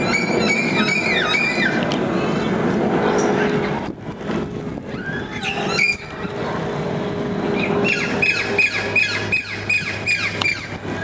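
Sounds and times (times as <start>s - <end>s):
distant jet engine rumble: 0.0s - 11.0s.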